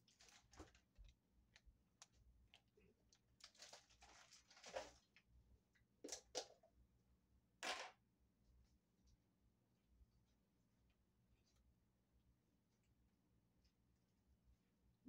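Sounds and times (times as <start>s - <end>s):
faint clicks and rustles of handling: 0.0s - 6.9s, 8.3s - 14.6s.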